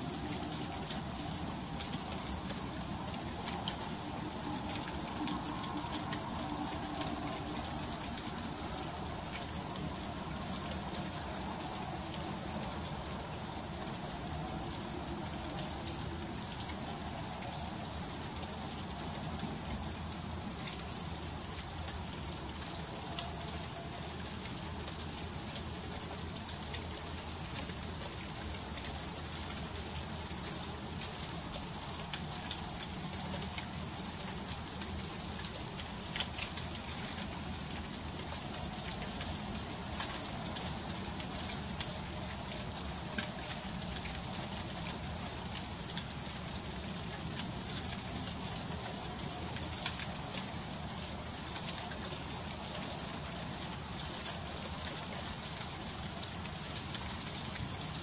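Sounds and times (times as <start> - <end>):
freezing rain patter: 0.0 - 58.0.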